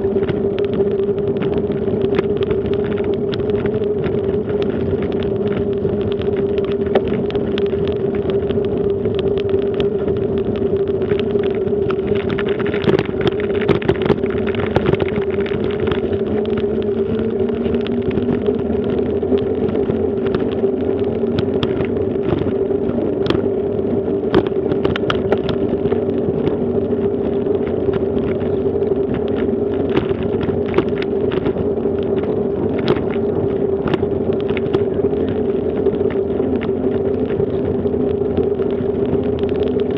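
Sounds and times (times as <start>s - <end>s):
bicycle tyres rumbling on bricks: 0.0s - 39.9s
bike rattles and clicks: 0.0s - 39.9s.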